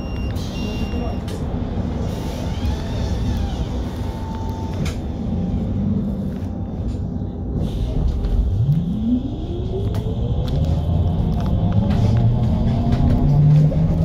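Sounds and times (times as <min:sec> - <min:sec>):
trolleybus motor whine: 0:00.0 - 0:14.0
low rumble: 0:01.5 - 0:14.0.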